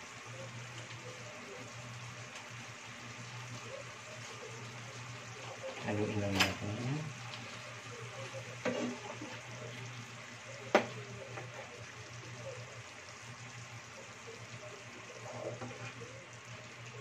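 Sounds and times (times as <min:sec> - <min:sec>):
stew simmering and sizzling in pan: 0:00.0 - 0:17.0
utensil stirring sauce: 0:02.2 - 0:17.0.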